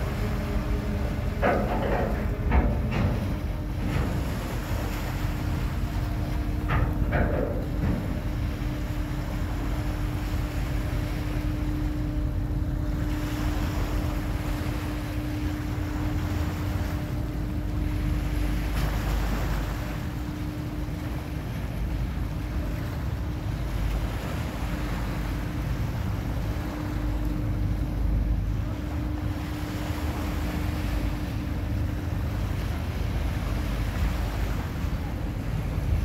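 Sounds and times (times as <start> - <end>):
ferry engine hum: 0.0 - 36.0
small waves washing up slipway: 0.0 - 36.0.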